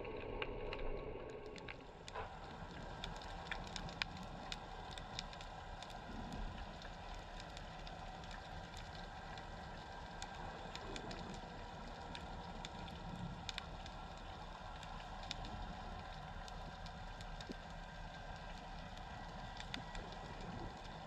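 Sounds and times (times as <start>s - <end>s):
low underwater hum and hiss: 0.0s - 21.0s
sharp clicks and crackles: 0.0s - 21.0s.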